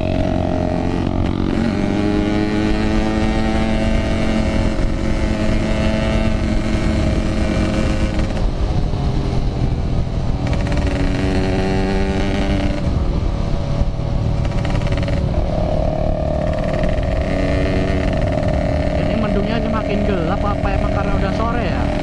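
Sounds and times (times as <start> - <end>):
motorcycle engine running: 0.0 - 22.0
wind and road rumble: 0.0 - 22.0.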